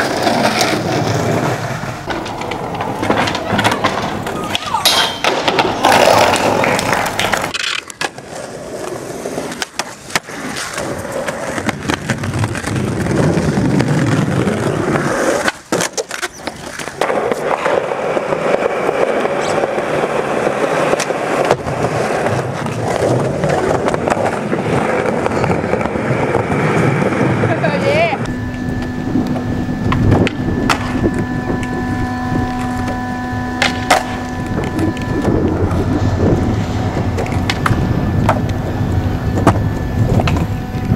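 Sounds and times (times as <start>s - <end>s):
skateboard clacking: 0.0s - 40.9s
skateboard wheels rolling on pavement: 0.0s - 40.9s.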